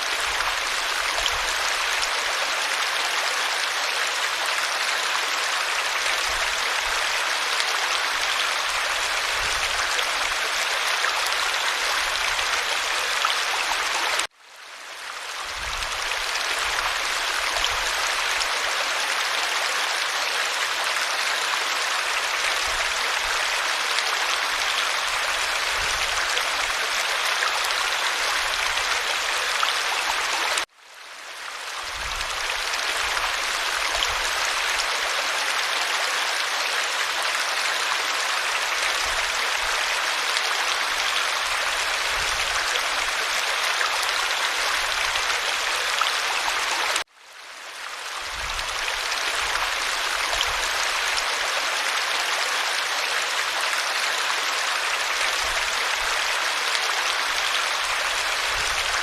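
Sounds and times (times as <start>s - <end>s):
creek water rushing and babbling: 0.0s - 59.0s.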